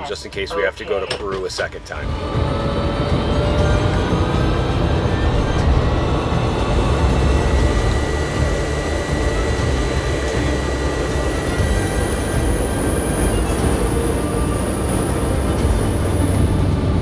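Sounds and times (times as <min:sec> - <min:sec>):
high engine whine: 0:00.0 - 0:17.0
turboprop engine rumbling: 0:00.0 - 0:17.0.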